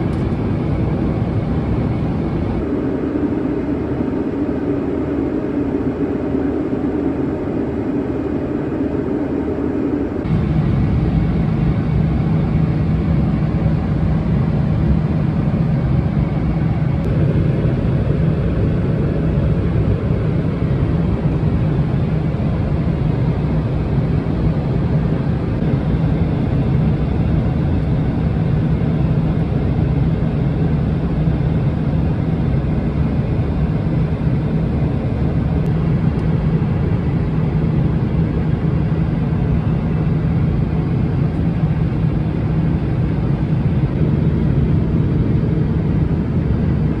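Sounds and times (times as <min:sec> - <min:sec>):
airliner cabin engine rumble: 0:00.0 - 0:47.0.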